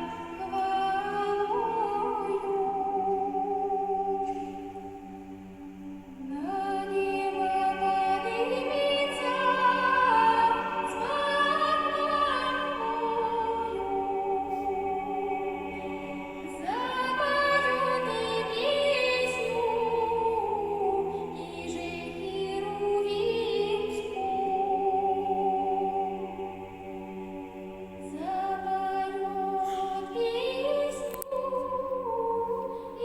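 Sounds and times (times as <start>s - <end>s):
choir singing a cappella: 0.0s - 33.0s.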